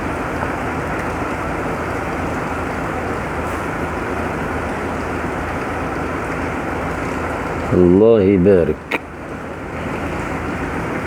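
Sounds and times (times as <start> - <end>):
low engine hum: 0.0 - 11.0
tyres rushing through water: 0.0 - 11.0.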